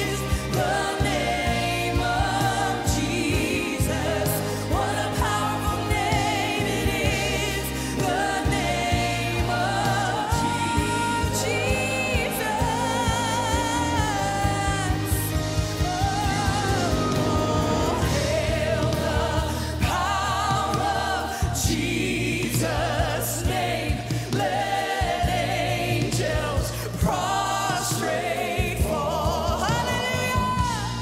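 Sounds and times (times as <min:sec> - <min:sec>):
bass: 0:00.0 - 0:31.0
drum kit: 0:00.0 - 0:31.0
female singers with choir: 0:00.0 - 0:31.0
grand piano: 0:00.0 - 0:31.0.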